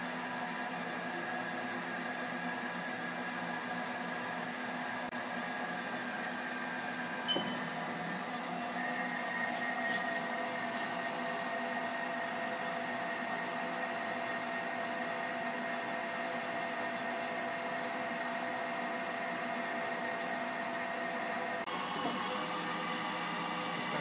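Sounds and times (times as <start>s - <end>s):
lathe electric whine: 0.0s - 24.0s.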